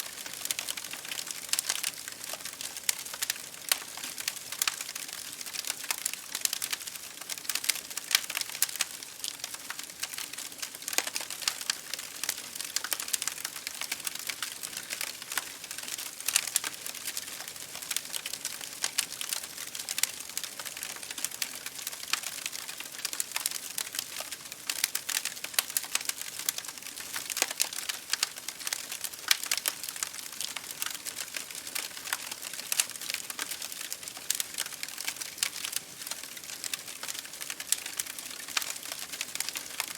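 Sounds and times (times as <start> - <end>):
rain against a window: 0.0 - 39.9
wood fire crackling: 0.0 - 39.9.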